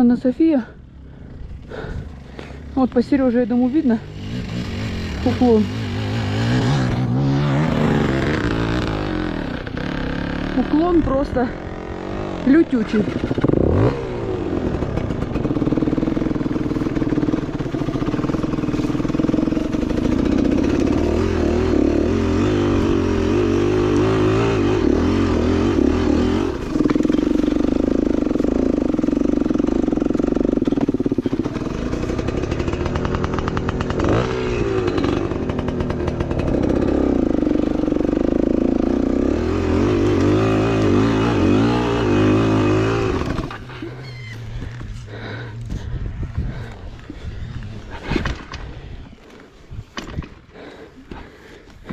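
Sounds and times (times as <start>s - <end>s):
dirt bike engine revving: 1.0s - 45.9s.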